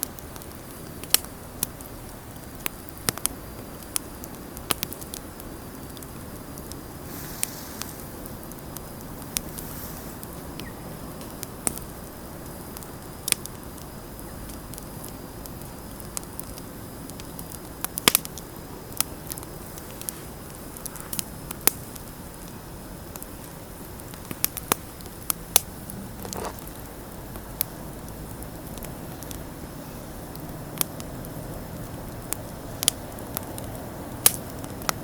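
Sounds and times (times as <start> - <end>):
bonfire pops and snaps: 0.0 - 35.0
low rumble of burning: 0.0 - 35.0.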